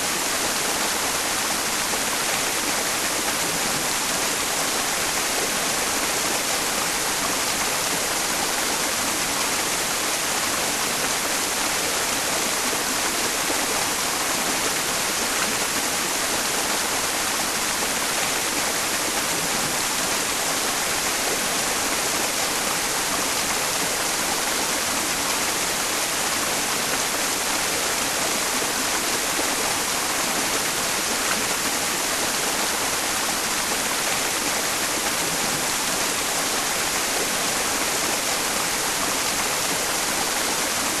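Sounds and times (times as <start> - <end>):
stream rushing water: 0.0 - 41.0
white noise hiss: 0.0 - 41.0.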